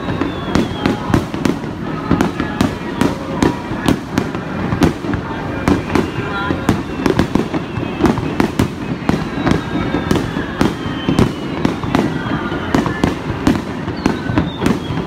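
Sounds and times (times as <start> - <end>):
fireworks bursting with sharp bangs: 0.0 - 15.0.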